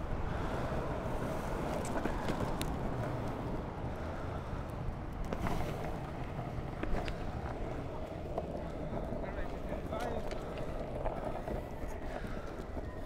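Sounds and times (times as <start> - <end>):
longboard wheels rolling on tarmac: 0.0 - 13.0.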